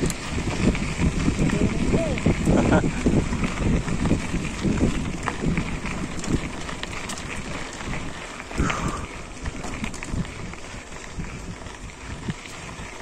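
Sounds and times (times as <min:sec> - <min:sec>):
bicycle rattling over bumps: 0:00.0 - 0:13.0
bicycle tyres on trail: 0:00.0 - 0:13.0
wind on microphone: 0:00.0 - 0:13.0.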